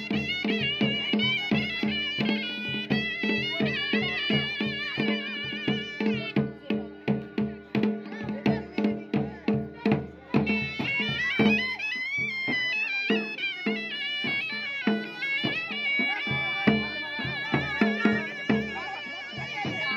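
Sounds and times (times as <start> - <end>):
double-reed pipe melody: 0.0 - 9.5, 10.2 - 19.9
drums beating: 0.0 - 19.9.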